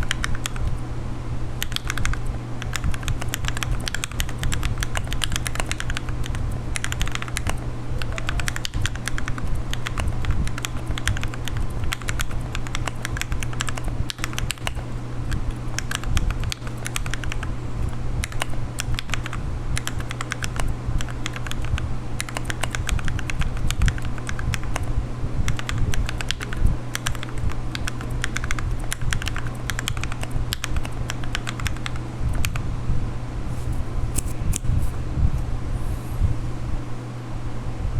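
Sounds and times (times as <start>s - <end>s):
mechanical keyboard typing: 0.0s - 0.8s, 1.6s - 32.6s, 33.6s - 34.9s
low hum: 0.0s - 37.9s.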